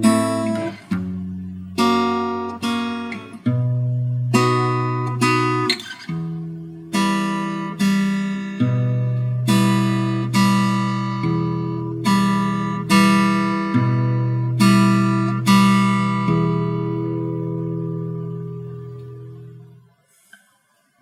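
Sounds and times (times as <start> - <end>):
acoustic guitar chords ringing: 0.0 - 20.3.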